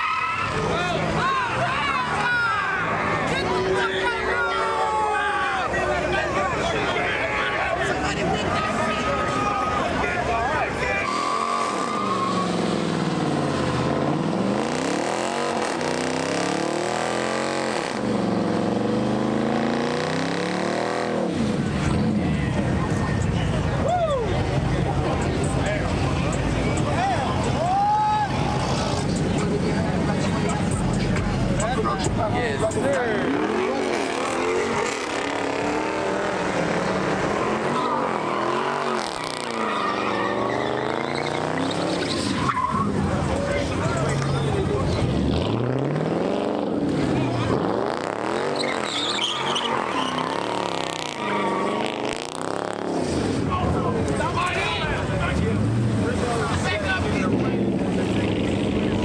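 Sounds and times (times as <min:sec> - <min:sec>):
car engine revving: 0:07.7 - 0:23.8, 0:24.4 - 0:59.0.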